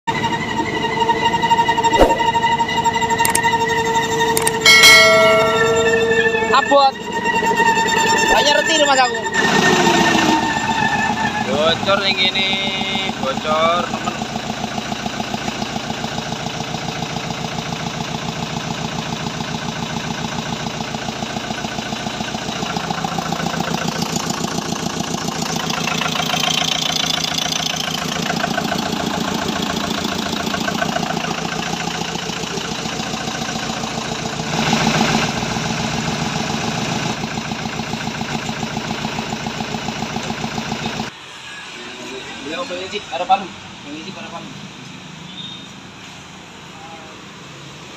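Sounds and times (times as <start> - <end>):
diesel engine idling: 2.4 - 41.2.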